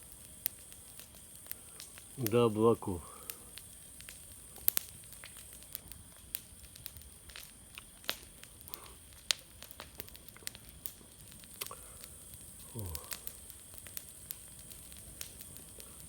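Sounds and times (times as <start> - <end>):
bonfire crackling: 0.0 - 16.0
faint steady hiss: 0.0 - 16.0
sharp pops of fire: 0.0 - 16.0.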